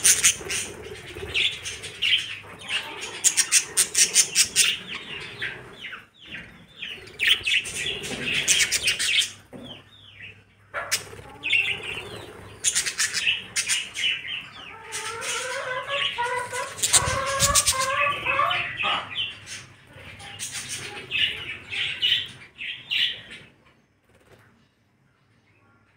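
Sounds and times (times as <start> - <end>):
budgerigars chirping and chattering: 0.0 - 24.3.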